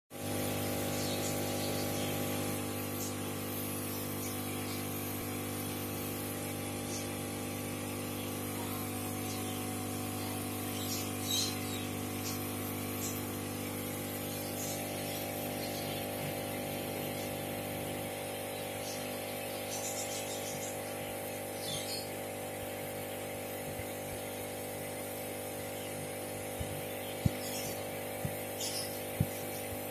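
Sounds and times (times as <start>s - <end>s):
aquarium air pump humming: 0.1s - 29.9s.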